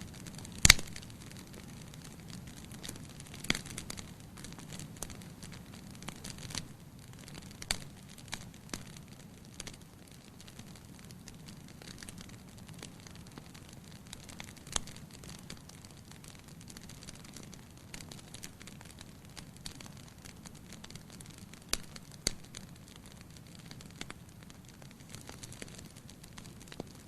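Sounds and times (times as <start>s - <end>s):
firewood popping: 0.0s - 9.8s, 11.1s - 27.0s
fire crackling: 0.0s - 27.0s
low rumble of flame: 0.0s - 27.0s.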